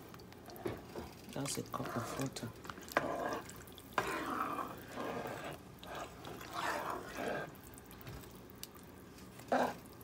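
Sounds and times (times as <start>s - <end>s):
spatula stirring wet rice in pot: 0.0s - 10.0s.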